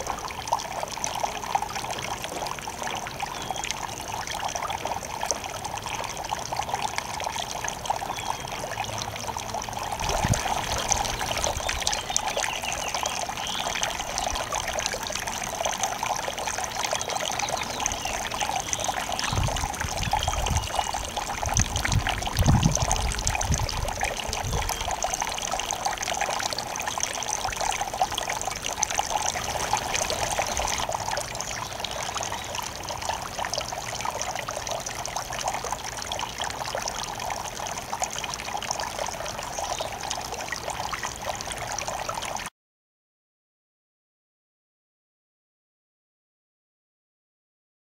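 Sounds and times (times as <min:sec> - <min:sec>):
fountain water trickling over rocks: 0:00.0 - 0:42.5.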